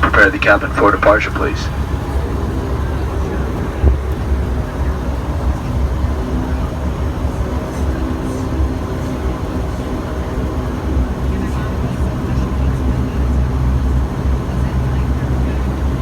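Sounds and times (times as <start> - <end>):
turboprop engines droning in cabin: 0.0 - 16.0.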